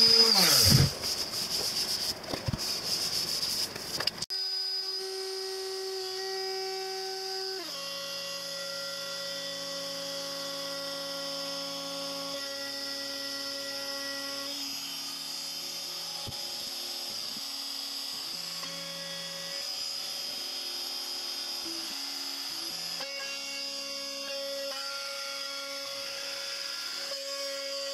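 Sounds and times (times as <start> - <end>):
router whining: 0.0 - 1.3, 4.0 - 27.9.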